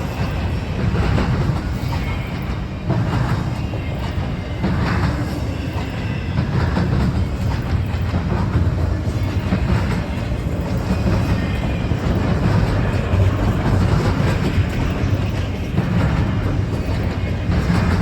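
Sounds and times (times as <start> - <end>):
faint clickety-clack: 0.0 - 18.0.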